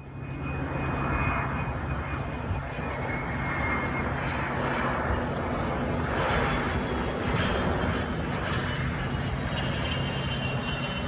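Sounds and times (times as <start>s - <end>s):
high jet engine whine: 0.0s - 11.0s.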